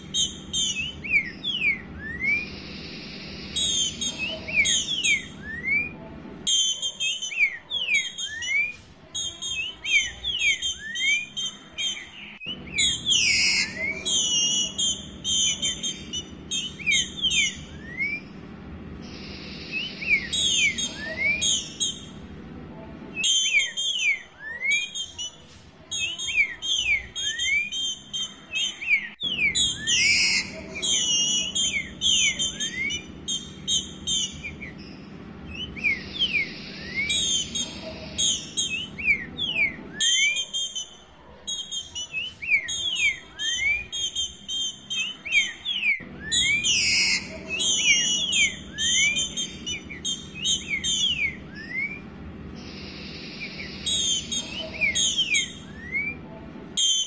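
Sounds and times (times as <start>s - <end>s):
bird whistling upward notes: 0.0s - 18.4s, 19.0s - 22.2s, 23.2s - 57.0s.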